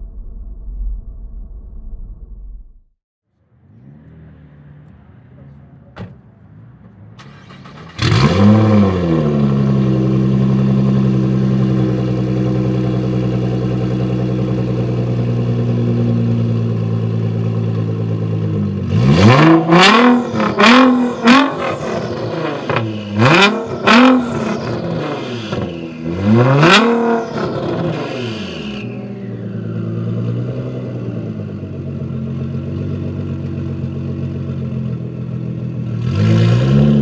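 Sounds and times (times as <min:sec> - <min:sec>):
car engine idling and revving: 0:03.3 - 0:37.0.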